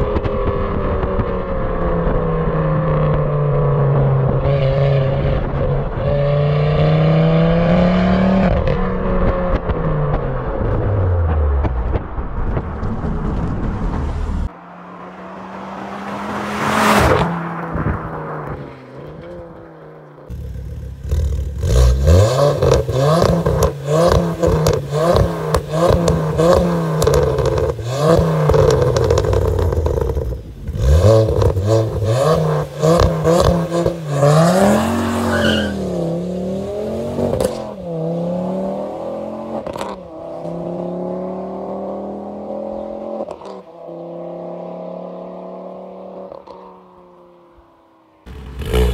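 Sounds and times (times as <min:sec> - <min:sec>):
car engine revving with crackles: 0:00.0 - 0:47.4, 0:48.2 - 0:48.9.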